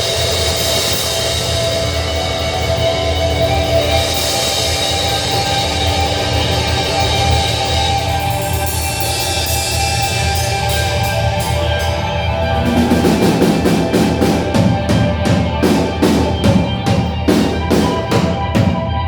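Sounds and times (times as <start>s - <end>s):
drum kit playing steady beat: 0.0s - 19.0s.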